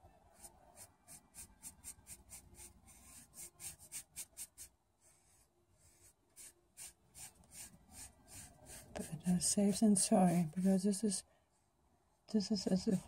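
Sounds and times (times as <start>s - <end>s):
paintbrush scratching on canvas: 0.4s - 10.9s.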